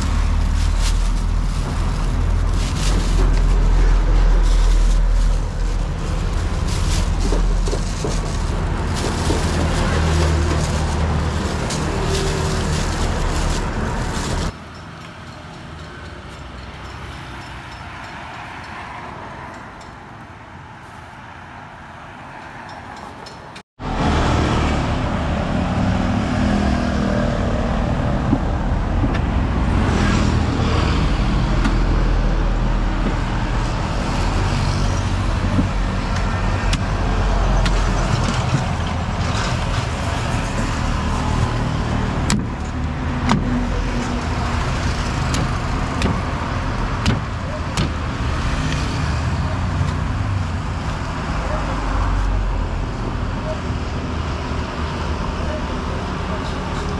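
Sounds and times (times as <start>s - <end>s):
traffic rumble: 0.0s - 56.9s.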